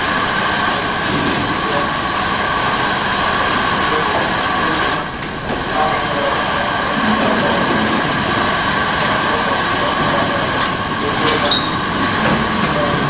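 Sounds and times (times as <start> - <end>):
factory machinery din: 0.0 - 13.0
high whining tones: 1.6 - 13.0.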